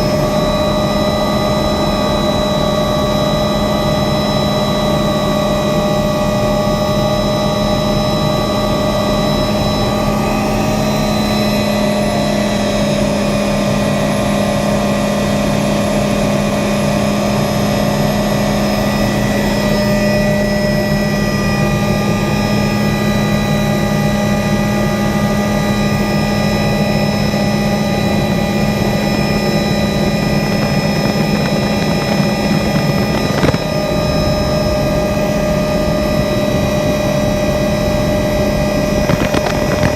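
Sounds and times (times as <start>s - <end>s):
helicopter engine and rotor drone: 0.0s - 39.9s
whining tones: 0.0s - 39.9s.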